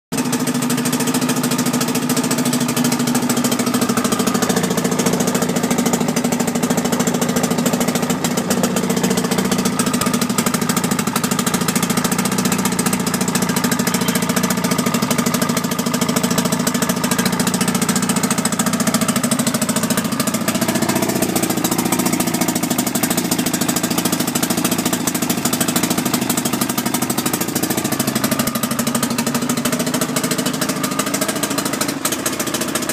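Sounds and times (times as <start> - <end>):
outboard motor idling: 0.1 - 32.9.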